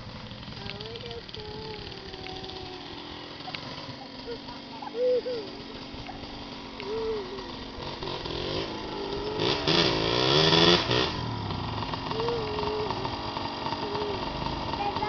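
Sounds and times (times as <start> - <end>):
atv engine revving: 0.0 - 15.0
atv engines running: 0.0 - 15.0.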